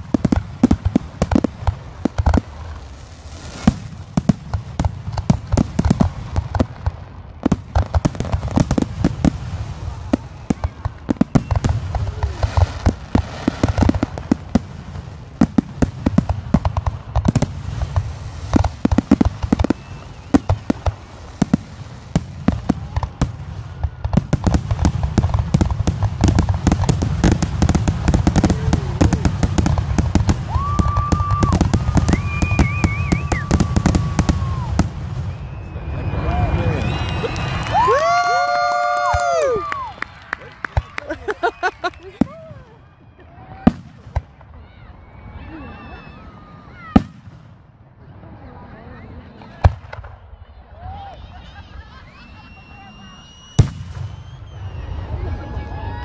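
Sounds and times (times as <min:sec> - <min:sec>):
fireworks booming: 0:00.0 - 0:39.9, 0:46.8 - 0:48.2, 0:49.4 - 0:50.4, 0:52.7 - 0:55.5.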